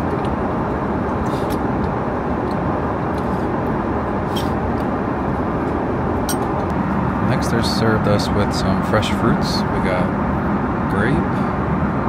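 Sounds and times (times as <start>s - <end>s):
airliner cabin engine noise: 0.0s - 12.0s.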